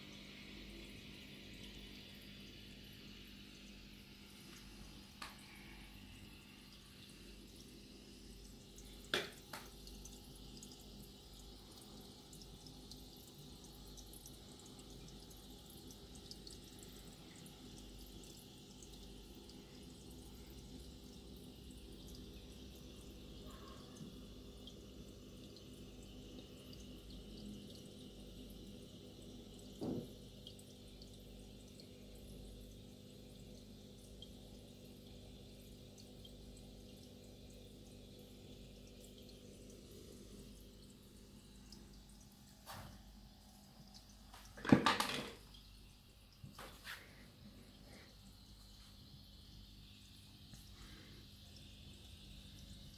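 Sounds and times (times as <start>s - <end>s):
aquarium water trickling: 0.0s - 52.9s
low steady hum: 0.0s - 52.9s.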